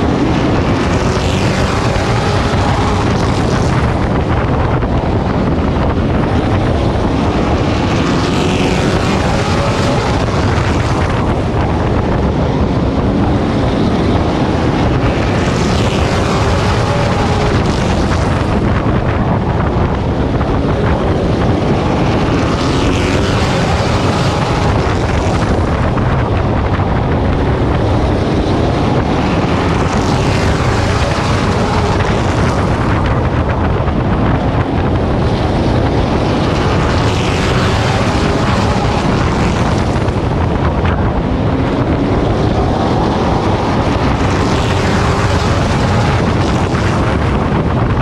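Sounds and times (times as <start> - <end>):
race truck engine running hard: 0.0 - 48.0
wind buffeting microphone: 0.0 - 48.0.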